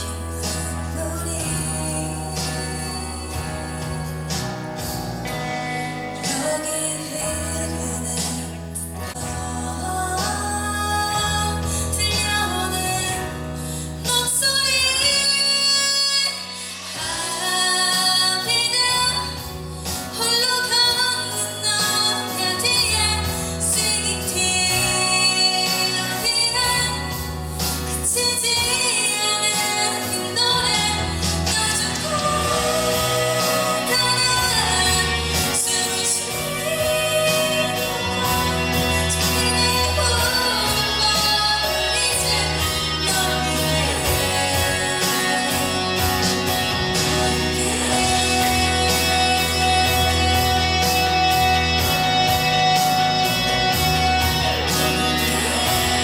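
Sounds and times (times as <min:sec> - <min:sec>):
women singing a slow ballad: 0:00.0 - 0:51.3
guitar and backing instruments: 0:00.0 - 0:56.0
musical accompaniment: 0:00.0 - 0:56.0.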